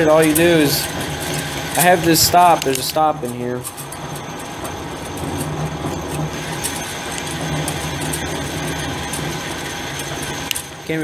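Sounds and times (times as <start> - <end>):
lathe motor humming: 0.0 - 11.0.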